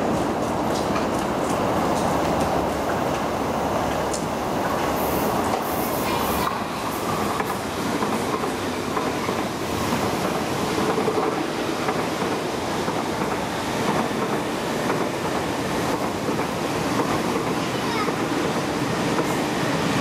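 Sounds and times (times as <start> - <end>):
electric train passing at speed: 0.0 - 20.0.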